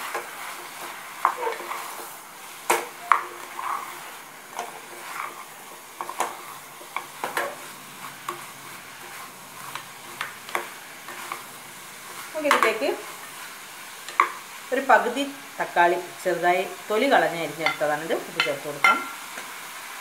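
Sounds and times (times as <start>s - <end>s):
frying sizzle: 0.0s - 20.0s.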